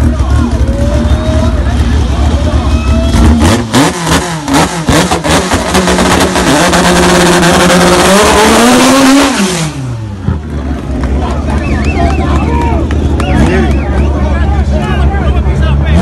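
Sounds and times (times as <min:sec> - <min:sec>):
car engine revving and accelerating: 0:01.2 - 0:14.1.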